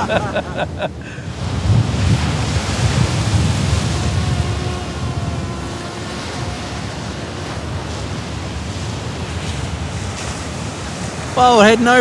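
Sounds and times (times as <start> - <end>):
drone propellers humming: 0.0 - 11.3
surf breaking: 0.0 - 12.0
wind buffeting microphone: 0.0 - 12.0.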